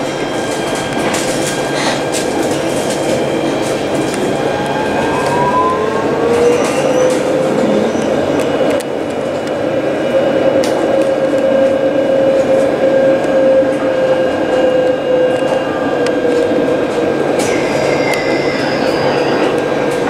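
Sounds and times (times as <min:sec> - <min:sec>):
wheels squealing on rails: 0:00.0 - 0:08.8, 0:09.8 - 0:20.0
tram motor whine: 0:00.0 - 0:20.0
tram rolling noise: 0:00.0 - 0:20.0.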